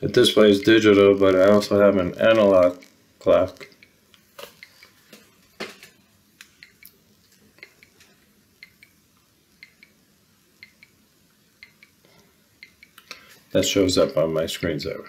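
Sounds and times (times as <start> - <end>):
faint clock ticking: 0.2 - 5.2, 6.4 - 15.0.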